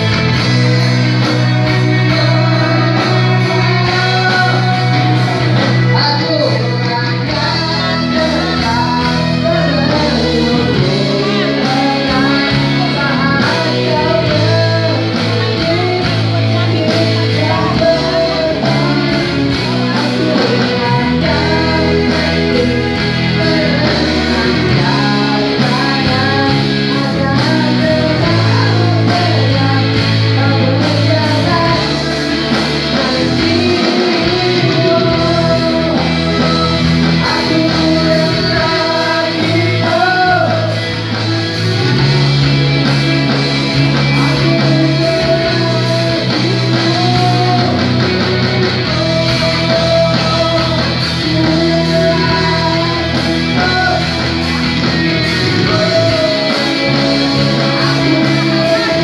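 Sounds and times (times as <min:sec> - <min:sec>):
live pop band playing: 0:00.0 - 0:59.0
man singing into microphone: 0:00.0 - 0:59.0.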